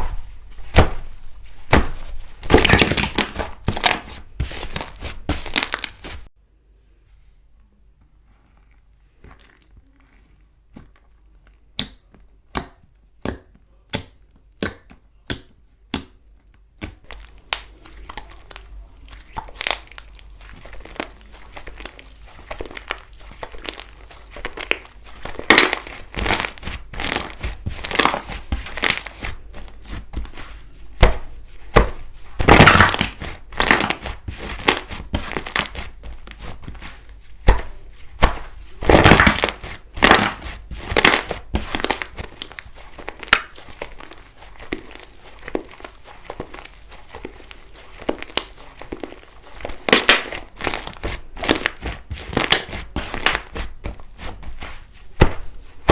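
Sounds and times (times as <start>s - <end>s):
slime crackling and crunching: 0.0s - 6.3s, 16.8s - 55.9s.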